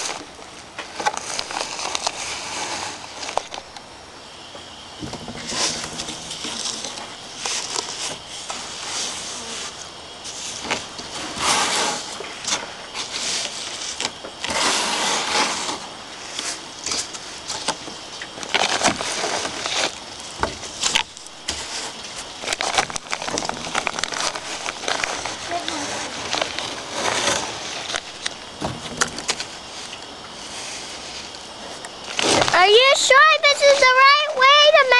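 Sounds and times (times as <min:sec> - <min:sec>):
hands packing wet sand: 0:00.0 - 0:03.7, 0:05.1 - 0:34.5.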